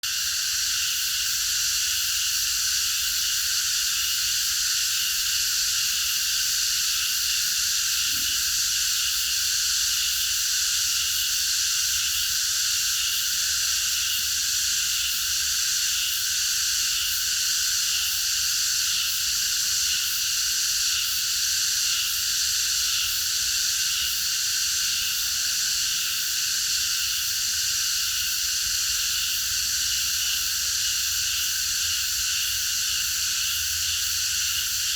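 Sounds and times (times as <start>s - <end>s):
cicadas buzzing: 0.0s - 34.9s.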